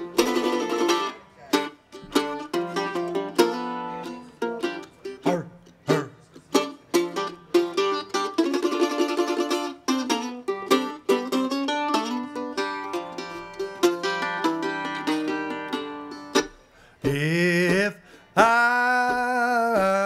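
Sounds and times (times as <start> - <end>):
mandolin playing slow tune: 0.0 - 20.0.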